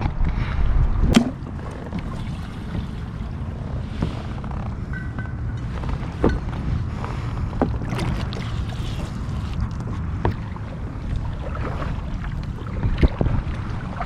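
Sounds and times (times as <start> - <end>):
wind rumbling on microphone: 0.0 - 14.0
water lapping against kayak hull: 0.1 - 14.0.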